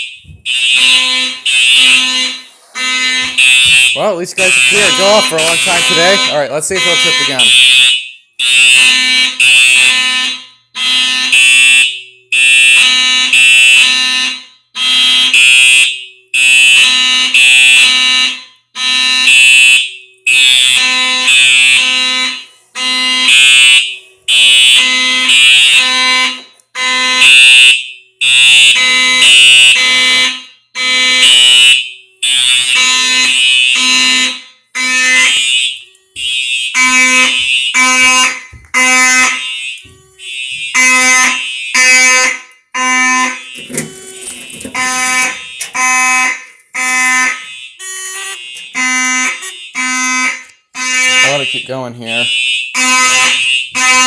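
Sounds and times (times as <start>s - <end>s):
fire alarm sounding: 0.0s - 54.0s.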